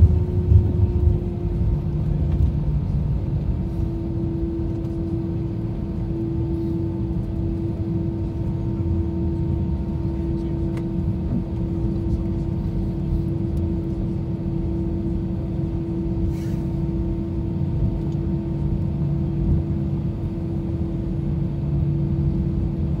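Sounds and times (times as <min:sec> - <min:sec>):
jet engines humming: 0:00.0 - 0:23.0.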